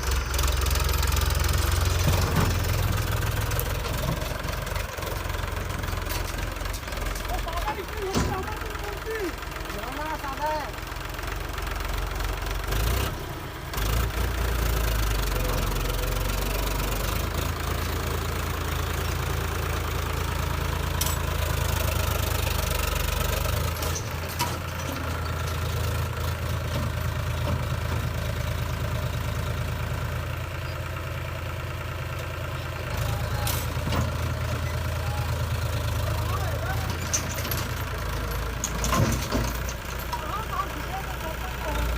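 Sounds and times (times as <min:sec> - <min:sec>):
diesel engine rumbling: 0:00.0 - 0:41.9.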